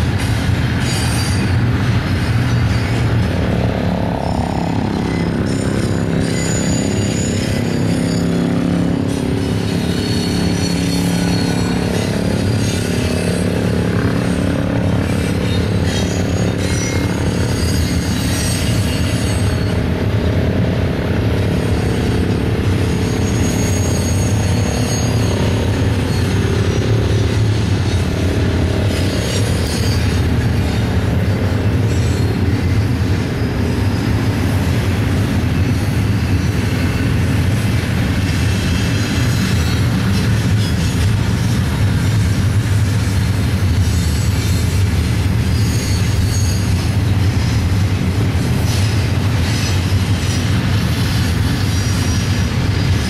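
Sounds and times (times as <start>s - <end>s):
freight train wheels rumbling on rail: 0.0s - 53.0s
high wheel squeal: 0.0s - 53.0s.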